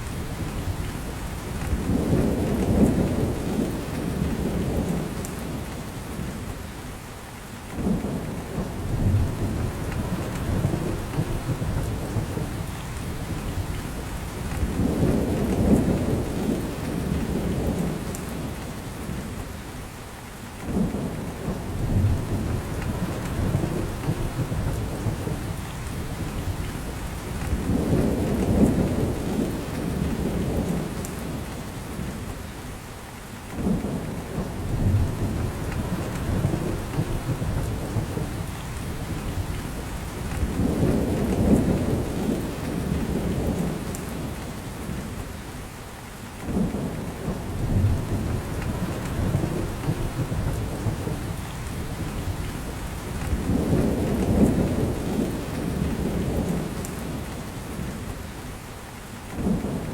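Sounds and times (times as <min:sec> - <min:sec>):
steady rain on forest: 0:00.0 - 0:59.9.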